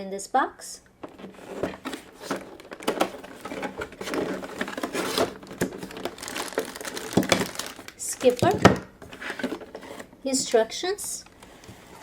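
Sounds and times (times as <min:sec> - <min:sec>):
cardboard and plastic rustling: 0:01.0 - 0:12.0.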